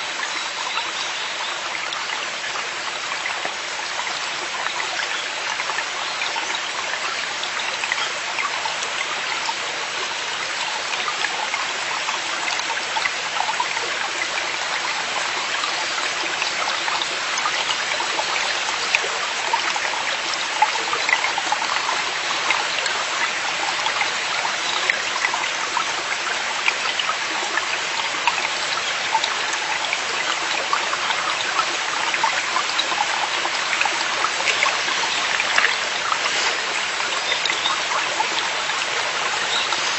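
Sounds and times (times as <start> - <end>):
stream flowing: 0.0 - 39.9
water splashes and trickles: 0.0 - 39.9.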